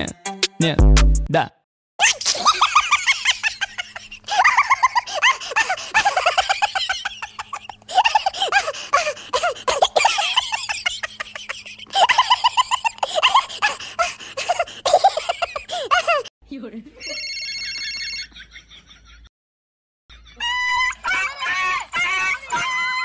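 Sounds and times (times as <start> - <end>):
high-pitched laughter: 2.0 - 16.3, 17.0 - 19.3, 20.1 - 23.0.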